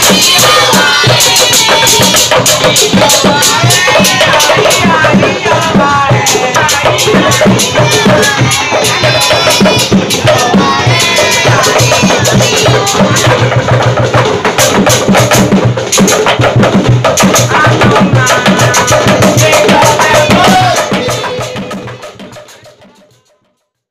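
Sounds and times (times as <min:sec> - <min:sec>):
young men chanting in chorus: 0:00.0 - 0:14.4, 0:17.2 - 0:22.8
drums and knocking percussion: 0:00.0 - 0:23.4.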